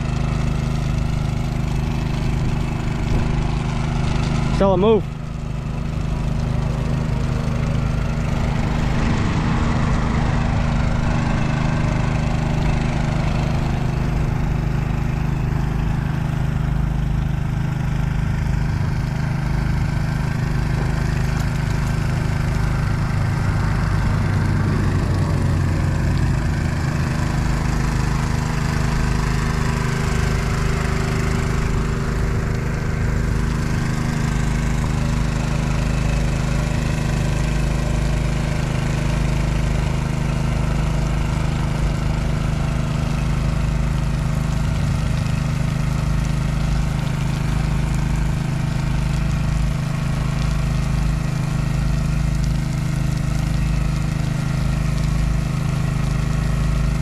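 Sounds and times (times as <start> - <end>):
constant hiss of spraying water: 0.0 - 57.0
pickup truck engine drone: 0.0 - 57.0.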